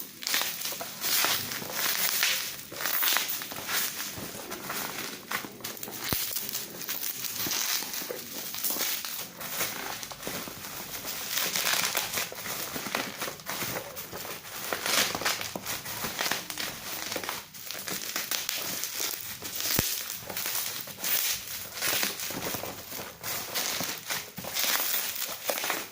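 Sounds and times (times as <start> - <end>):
plastic packaging crinkling: 0.0 - 25.9.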